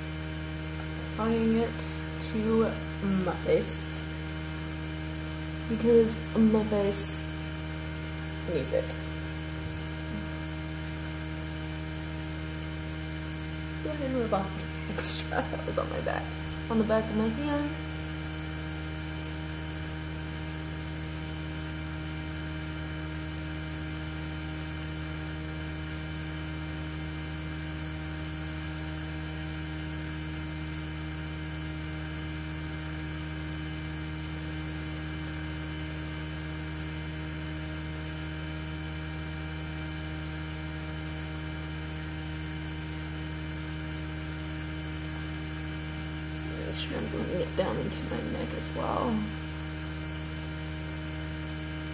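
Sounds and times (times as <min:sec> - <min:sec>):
electrical hum: 0:00.0 - 0:51.9.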